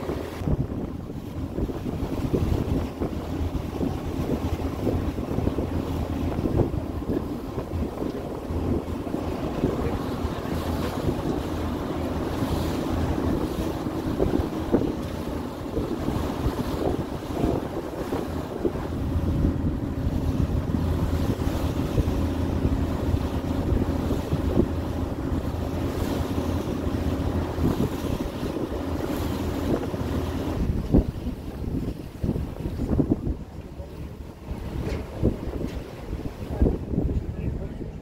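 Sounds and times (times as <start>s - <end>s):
ferry engine hum: 0.0s - 38.0s
water rushing past hull: 0.0s - 38.0s
wind buffeting microphone: 0.0s - 38.0s.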